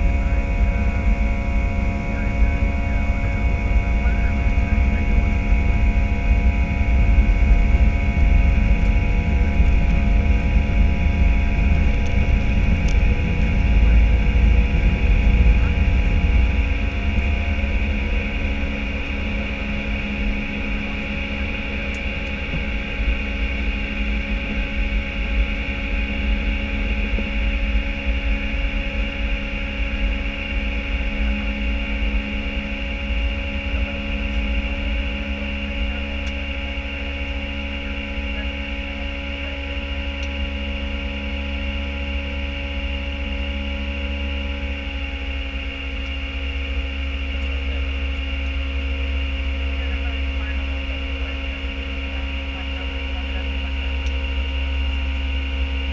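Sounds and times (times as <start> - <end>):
jet engines deep rumble: 0.0 - 55.9.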